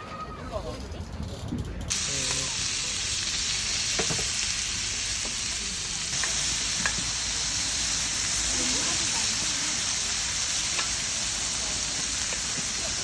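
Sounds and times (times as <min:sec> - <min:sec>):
food sizzling in a pan: 0:01.9 - 0:13.0.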